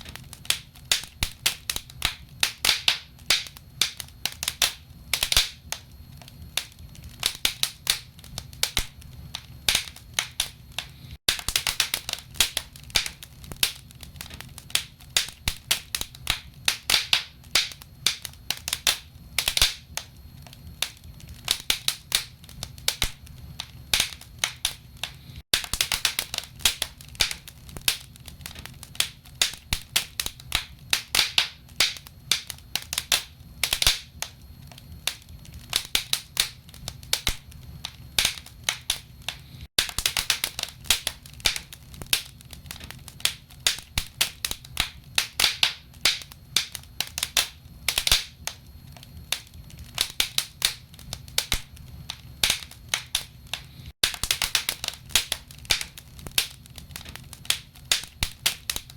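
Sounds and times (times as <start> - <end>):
low steady fire rumble: 0.0 - 58.9
wood fire crackling and popping: 0.0 - 58.9.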